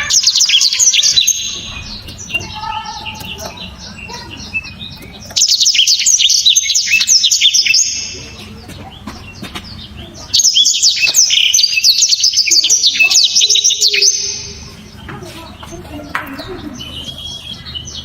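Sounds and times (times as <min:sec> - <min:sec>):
canary singing trilled notes: 0:00.0 - 0:18.0.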